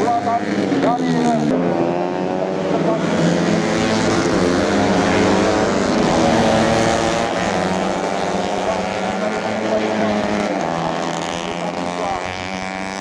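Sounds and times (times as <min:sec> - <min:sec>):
racing motorcycles at high revs: 0:00.0 - 0:13.0.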